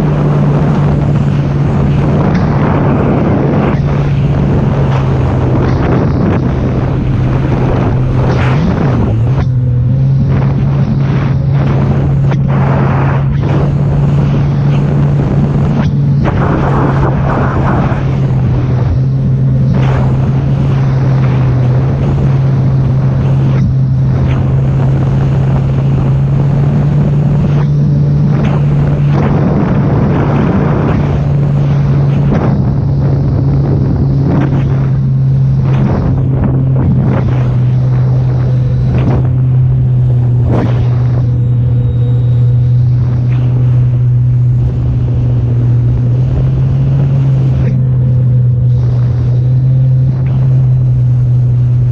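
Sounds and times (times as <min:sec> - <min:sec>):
watercraft engine running: 0:00.0 - 0:51.9
wind buffeting microphone: 0:00.0 - 0:51.9.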